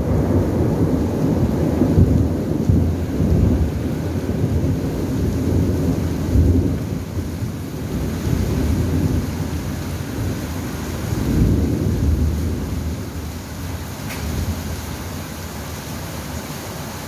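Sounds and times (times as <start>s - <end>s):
rolling thunder: 0.0s - 15.2s
steady rain: 0.0s - 17.0s.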